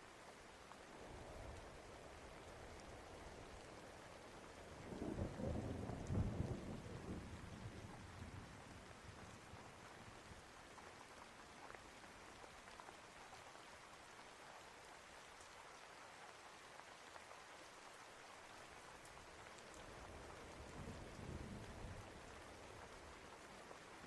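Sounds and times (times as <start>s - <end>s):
faint rain falling: 0.0s - 24.0s
small raindrop ticks: 0.0s - 24.0s.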